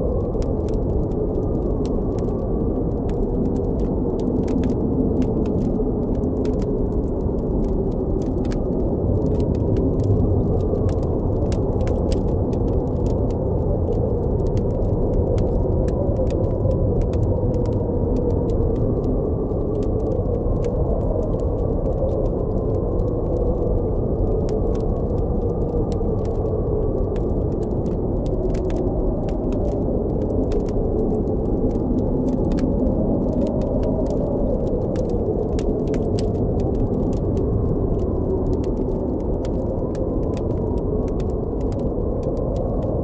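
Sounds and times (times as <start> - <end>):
blizzard wind howling: 0.0 - 43.0
campfire crackling: 0.0 - 43.0.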